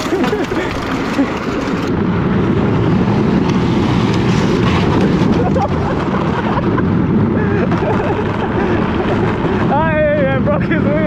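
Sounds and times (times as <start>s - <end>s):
vehicle noise: 0.0s - 11.0s
wind rumbling on microphone: 0.0s - 11.0s.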